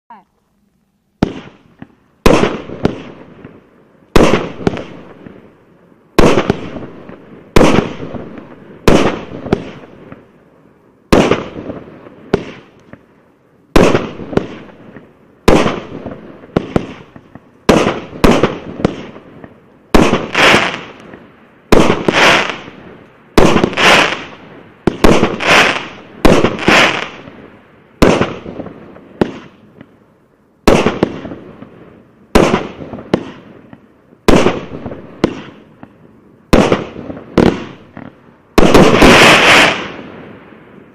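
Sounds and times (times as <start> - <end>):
fireworks bangs: 1.2 - 10.4, 11.0 - 30.0, 30.6 - 40.9.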